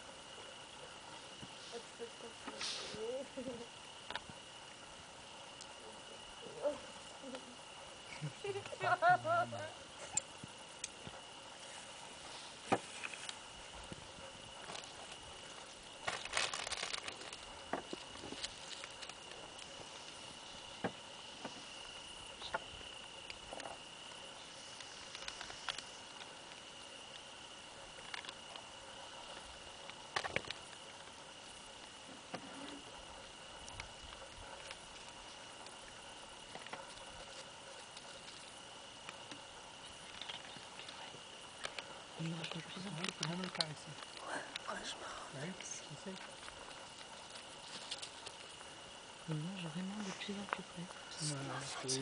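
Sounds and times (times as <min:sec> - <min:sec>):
fox foraging on dry grass: 0:00.0 - 0:52.0
high insect trill: 0:00.0 - 0:52.0.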